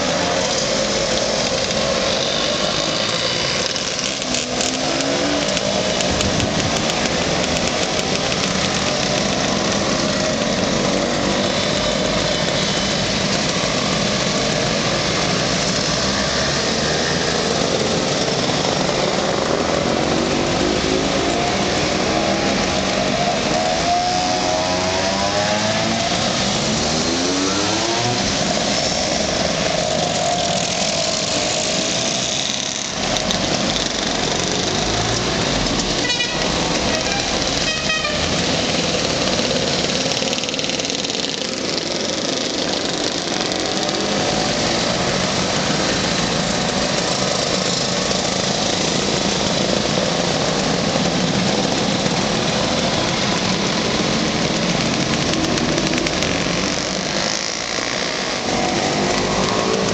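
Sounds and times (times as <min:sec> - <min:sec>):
scooters riding past revving: 0:00.0 - 0:59.9.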